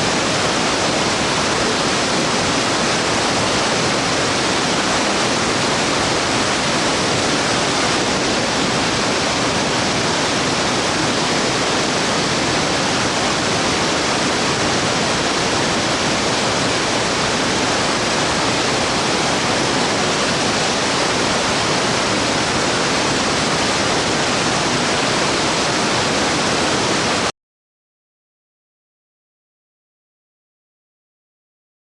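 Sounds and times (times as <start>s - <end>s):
waterfall roaring: 0.0s - 27.3s.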